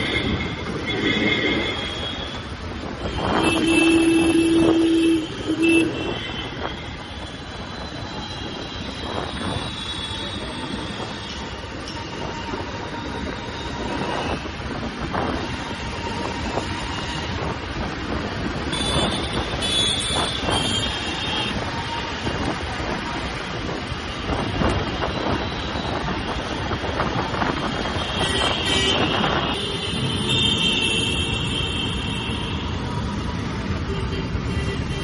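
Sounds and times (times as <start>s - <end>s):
wind noise on microphone: 0.0s - 35.0s.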